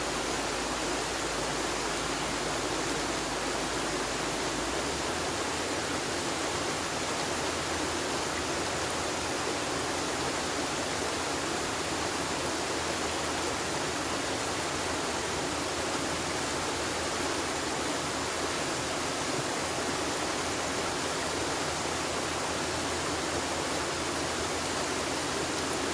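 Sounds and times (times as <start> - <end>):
river water rushing: 0.0 - 25.9.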